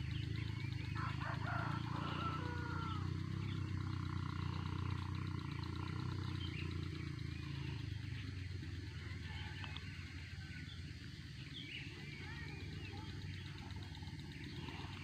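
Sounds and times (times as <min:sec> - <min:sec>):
faint bird chirps: 0:00.0 - 0:15.0
motorcycle engine droning: 0:00.0 - 0:15.0.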